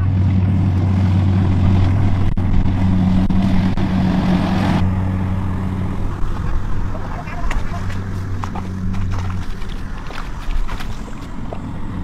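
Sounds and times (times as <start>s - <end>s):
harvester engine droning: 0.0s - 12.0s.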